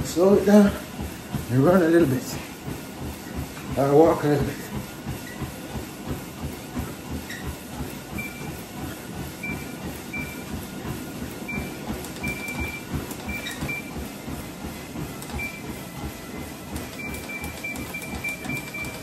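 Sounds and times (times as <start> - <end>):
footsteps on treadmill belt: 0.0 - 19.0
treadmill running: 0.0 - 19.0.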